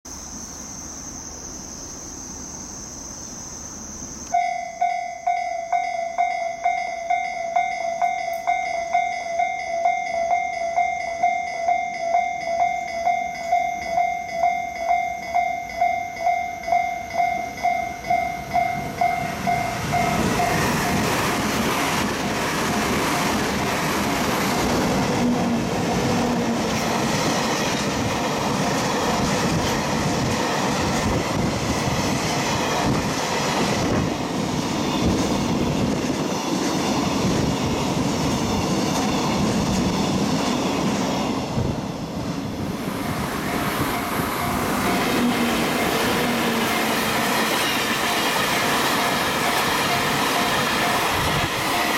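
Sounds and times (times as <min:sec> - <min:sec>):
freight train passing: 0:00.1 - 0:51.9
railway warning bell dinging: 0:04.2 - 0:51.9.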